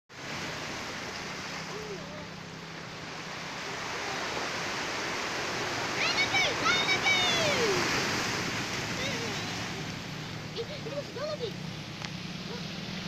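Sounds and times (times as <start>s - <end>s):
waves washing over rocks: 0.1s - 13.0s.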